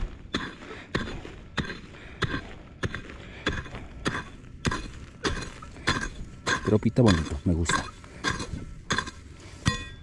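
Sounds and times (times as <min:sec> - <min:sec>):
digging tool striking soil: 0:00.0 - 0:10.0.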